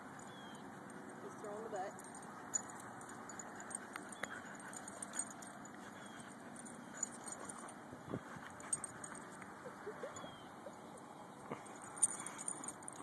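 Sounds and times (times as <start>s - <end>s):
collar tags jingling: 0.0s - 13.0s.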